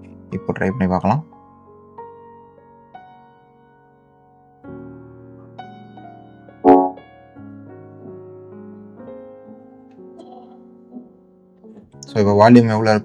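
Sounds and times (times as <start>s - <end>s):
piano music through speakers: 0.0s - 13.0s.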